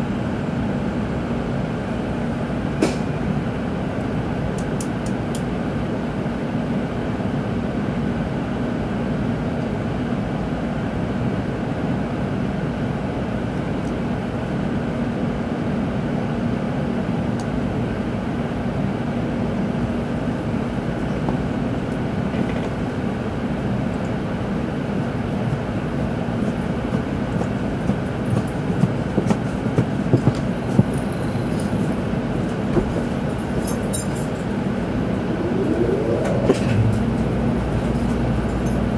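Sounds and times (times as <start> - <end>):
train cabin rumble with low hum: 0.0 - 38.9.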